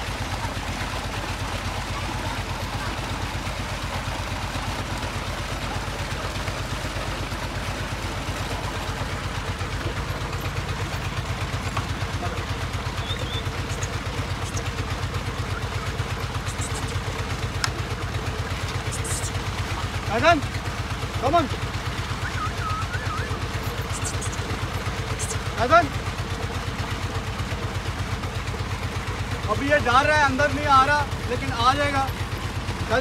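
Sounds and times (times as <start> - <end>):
pump engine thudding: 0.0 - 32.9.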